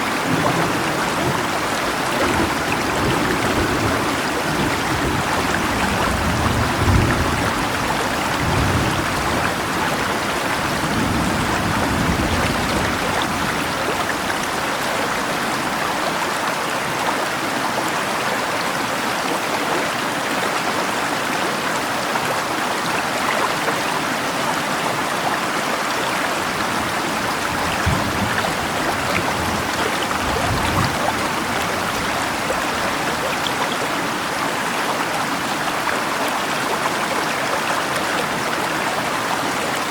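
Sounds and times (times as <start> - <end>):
rain falling: 0.0 - 39.9
river rushing: 0.0 - 39.9.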